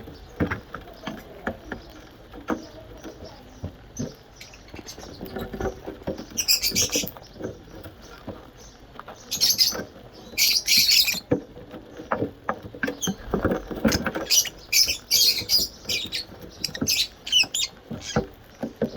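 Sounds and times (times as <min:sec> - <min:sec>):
pet birds chirping: 0:00.0 - 0:18.9.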